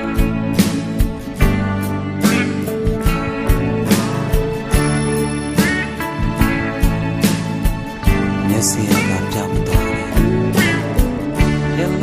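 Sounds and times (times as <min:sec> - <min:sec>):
instrumental pop-rock music: 0:00.0 - 0:12.0.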